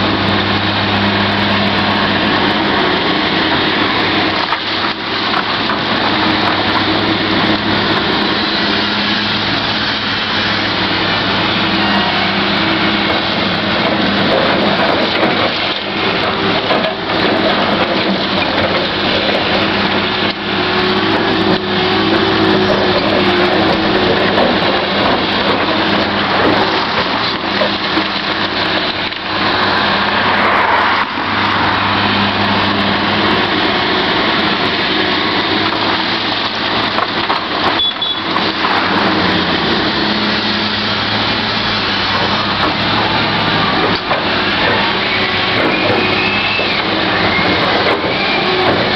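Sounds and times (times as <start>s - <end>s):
excavator diesel engine: 0.0s - 48.9s
hydraulic strain: 3.3s - 48.9s.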